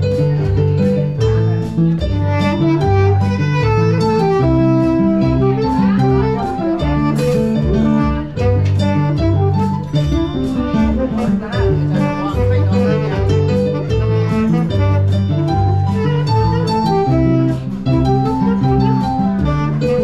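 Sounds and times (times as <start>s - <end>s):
instrumental music with walking bass: 0.0s - 20.0s.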